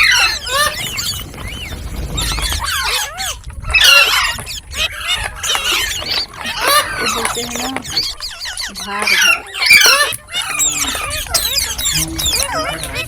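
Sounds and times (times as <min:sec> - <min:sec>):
parrot chirping and squawking: 0:00.0 - 0:13.0.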